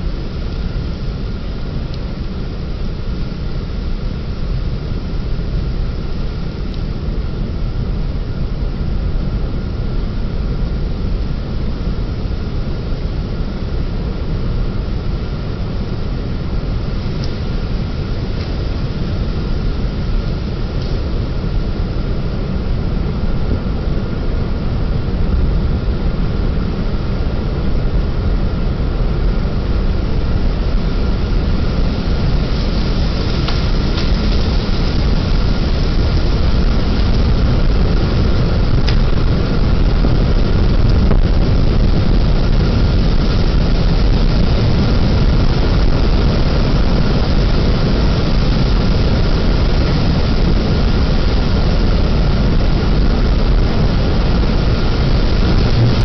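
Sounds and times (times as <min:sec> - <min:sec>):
tornado wind roaring: 0:00.0 - 0:56.0.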